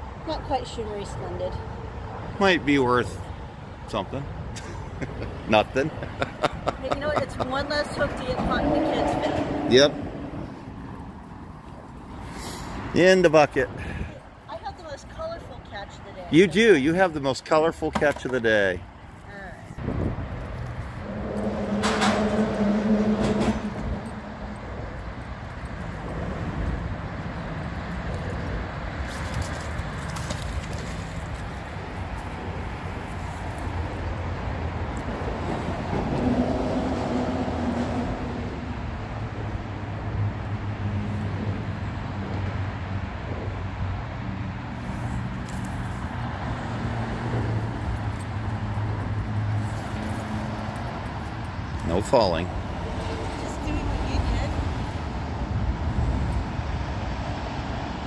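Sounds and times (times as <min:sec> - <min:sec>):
traffic on bridge overhead: 0:00.0 - 0:58.0.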